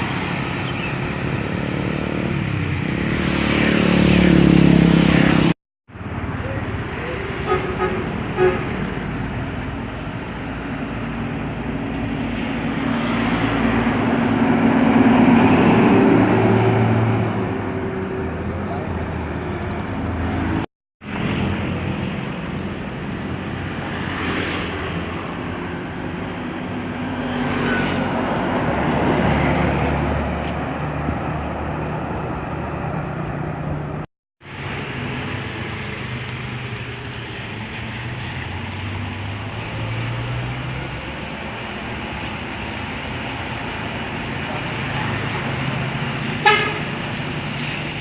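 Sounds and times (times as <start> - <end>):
bus engines running: 0.0 - 48.0
traffic hum: 0.0 - 48.0.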